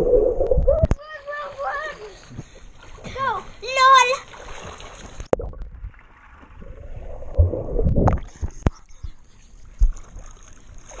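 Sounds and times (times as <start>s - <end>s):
water sloshing and gurgling: 0.0s - 11.0s.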